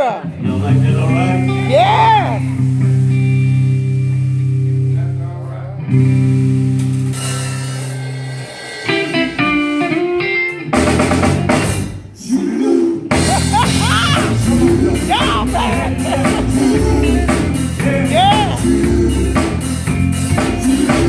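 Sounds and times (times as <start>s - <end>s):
gospel band instrumental: 0.0s - 21.0s
guitar licks: 0.4s - 7.3s, 8.9s - 11.7s, 13.1s - 21.0s
drum kit: 1.0s - 4.9s, 5.9s - 12.2s, 13.1s - 21.0s.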